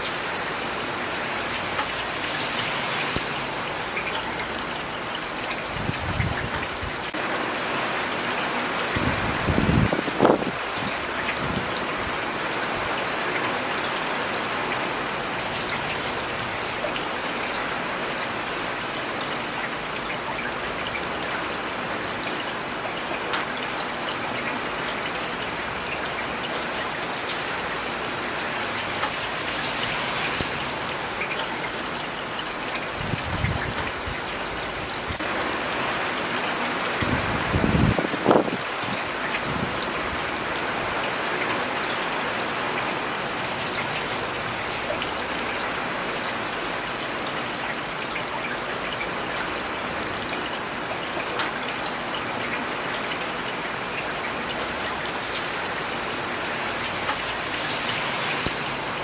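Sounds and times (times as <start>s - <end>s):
rain on hard surfaces: 0.0s - 59.0s.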